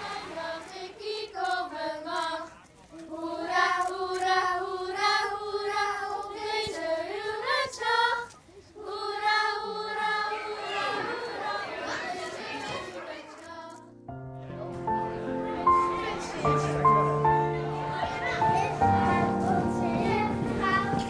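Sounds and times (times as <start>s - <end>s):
children singing in unison: 0.0s - 13.9s, 15.0s - 21.0s.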